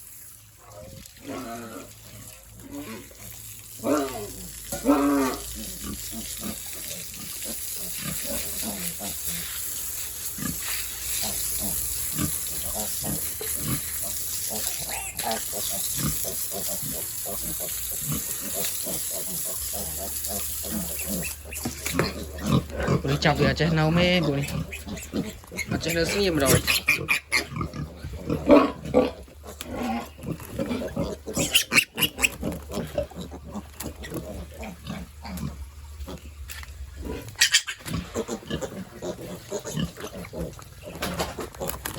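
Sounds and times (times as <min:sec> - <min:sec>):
pigs grunting and squealing: 0:00.6 - 0:41.9.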